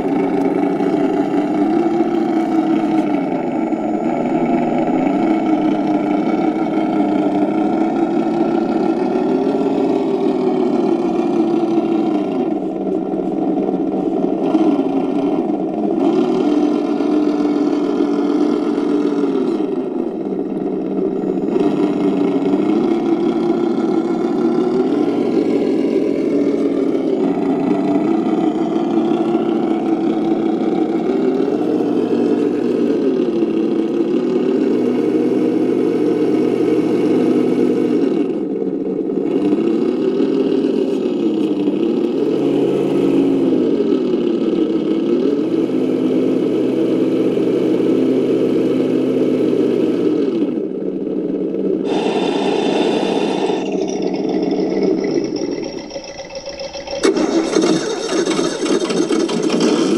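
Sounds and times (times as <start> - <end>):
simulated engine revving from speaker: 0.0 - 38.5, 39.1 - 50.7, 51.8 - 59.9.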